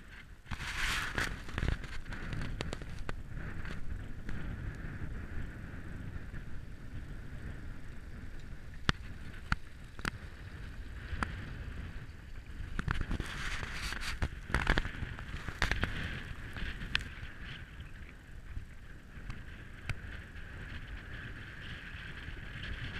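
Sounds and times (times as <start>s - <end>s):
wind rumbling on microphone: 0.0s - 22.9s.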